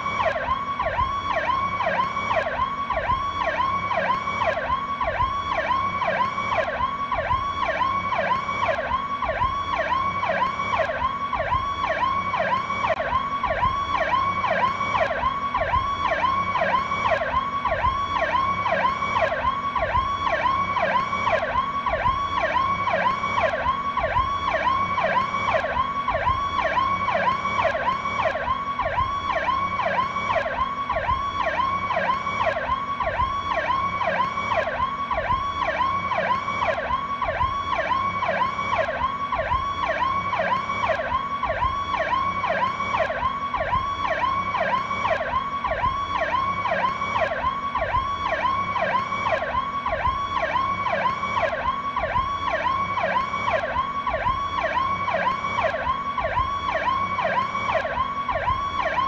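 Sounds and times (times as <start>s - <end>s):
police siren yelp: 0.0s - 59.0s.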